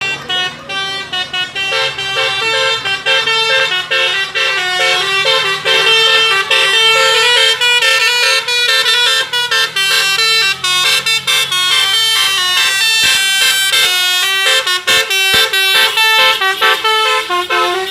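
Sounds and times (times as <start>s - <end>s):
musical bus horn melody: 0.0s - 17.9s.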